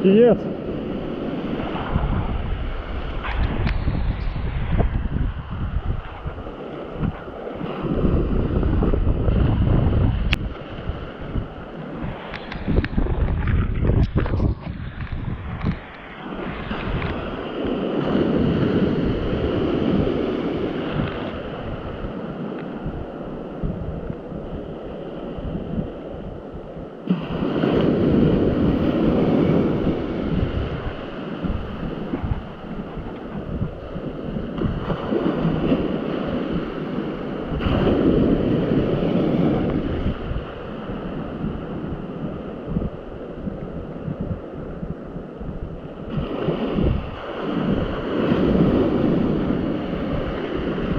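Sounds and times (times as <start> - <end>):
waves washing: 0.0 - 50.9
wind buffeting microphone: 0.0 - 50.9.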